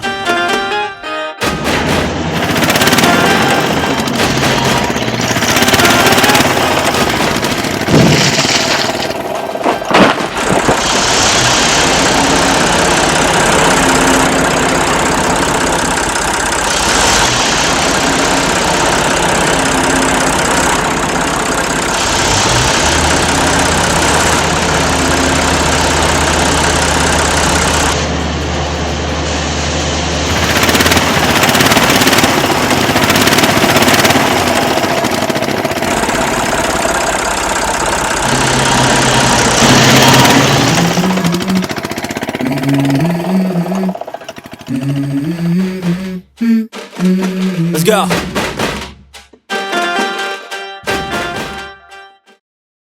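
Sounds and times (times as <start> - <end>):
vehicle engine running: 1.5 - 48.5.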